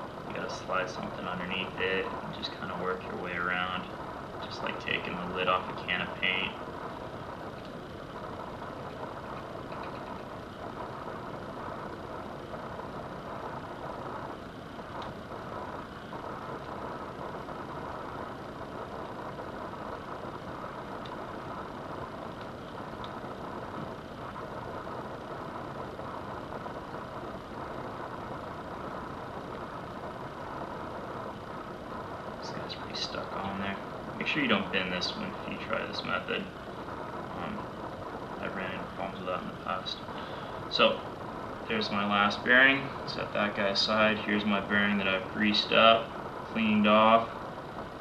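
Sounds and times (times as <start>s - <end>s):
fan or machinery running: 0.0s - 48.0s.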